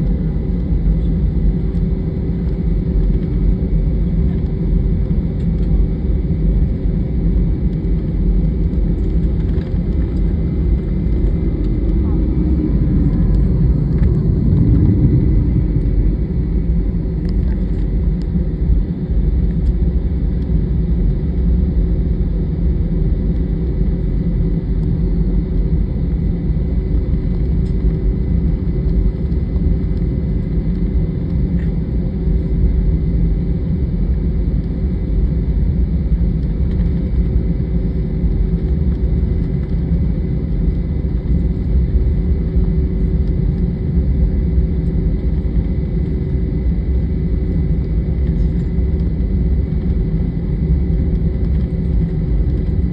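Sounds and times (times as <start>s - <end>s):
faint steady whine: 0.0s - 52.9s
jet engine cabin rumble: 0.0s - 52.9s.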